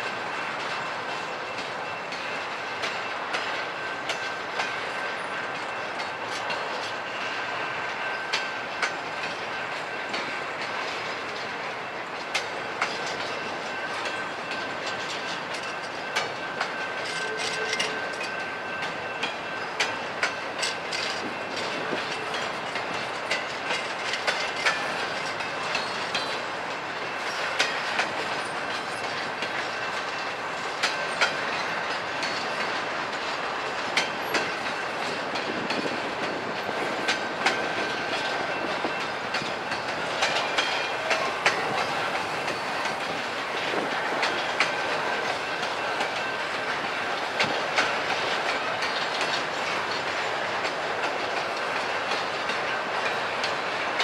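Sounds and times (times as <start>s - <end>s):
train wheels rolling on rail: 0.0s - 54.0s
wheels clacking over rail joints: 0.0s - 54.0s.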